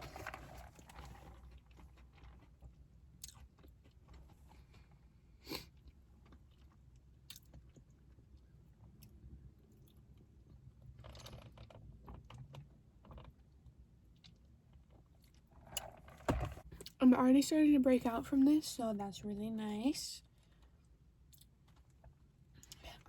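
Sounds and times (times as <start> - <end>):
chewing crispy food: 0.0 - 16.2, 20.6 - 23.0.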